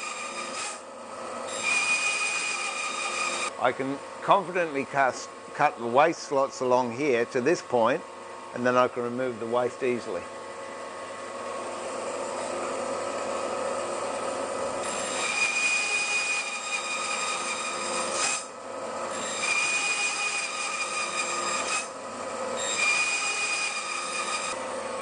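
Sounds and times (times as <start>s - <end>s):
bandsaw cutting wood whine: 0.0s - 25.0s
bandsaw running: 0.0s - 25.0s.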